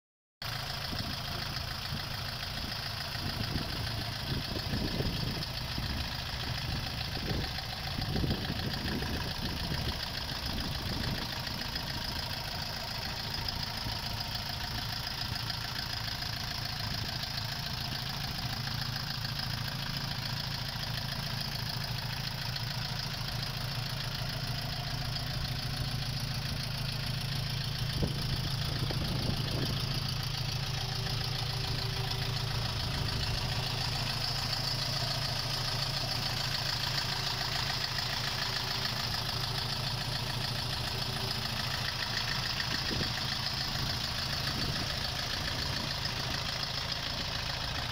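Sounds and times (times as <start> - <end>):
diesel engine idling: 0.4 - 47.9.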